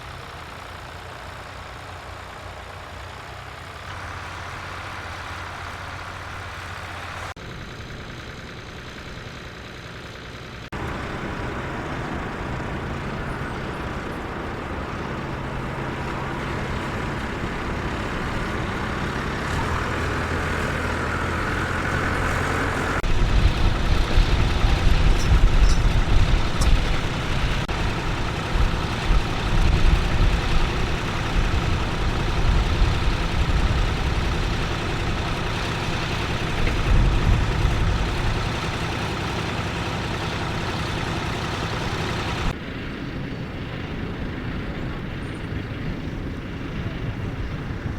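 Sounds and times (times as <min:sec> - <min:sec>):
heavy uneven low rumble: 0:00.0 - 0:47.9
tractor engine under load: 0:00.0 - 0:47.9.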